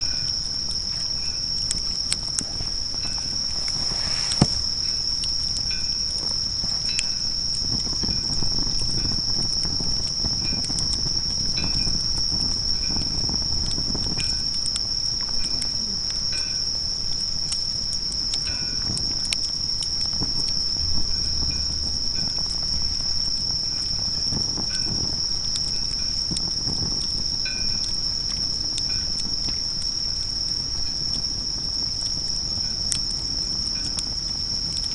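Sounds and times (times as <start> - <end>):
insects trilling: 0.0 - 34.9
sharp crackles: 0.0 - 34.9.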